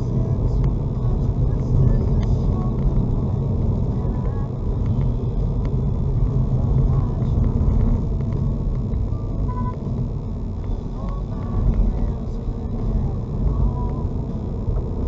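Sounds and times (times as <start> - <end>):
car cabin engine and tyre rumble: 0.0 - 15.0.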